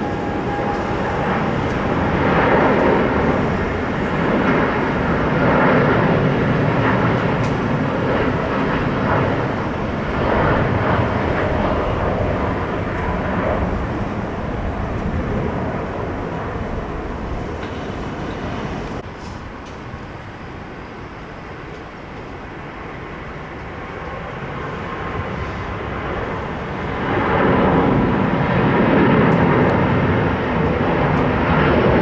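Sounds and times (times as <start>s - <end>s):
jet airliner engine passing: 0.0s - 32.0s.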